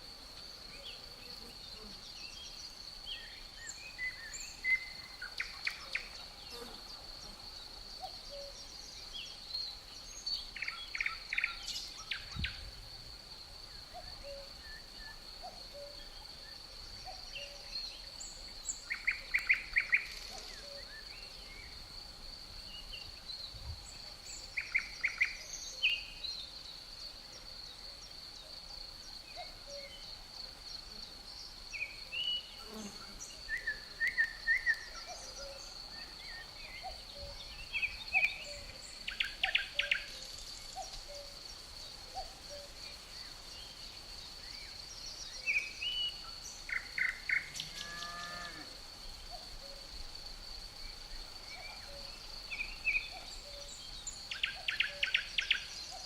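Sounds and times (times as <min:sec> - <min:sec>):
crickets trilling: 0:00.0 - 0:56.0
songbirds chirping: 0:00.0 - 0:56.0.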